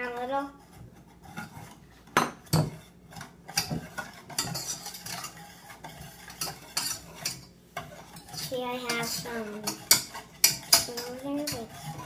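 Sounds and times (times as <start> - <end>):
whisk clinking and scraping pan: 0.0 - 12.0.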